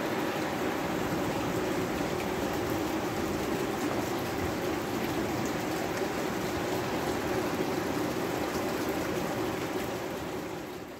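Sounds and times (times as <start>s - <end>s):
light rain falling: 0.0s - 10.9s.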